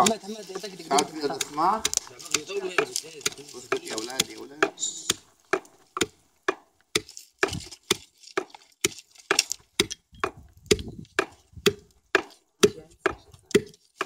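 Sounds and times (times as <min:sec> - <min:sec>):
wooden pestle knocking in mortar: 0:00.0 - 0:14.0.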